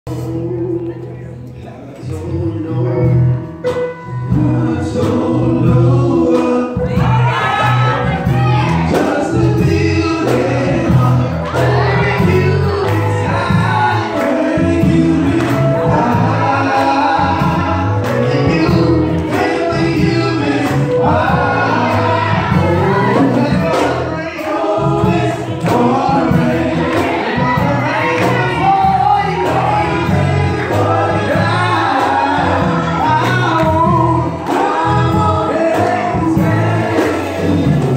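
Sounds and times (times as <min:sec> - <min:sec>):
drum kit: 0:00.1 - 0:00.8, 0:02.0 - 0:37.9
men singing into microphones: 0:00.1 - 0:01.2, 0:01.8 - 0:37.9
bass line: 0:00.1 - 0:37.9
guitar: 0:00.1 - 0:37.9.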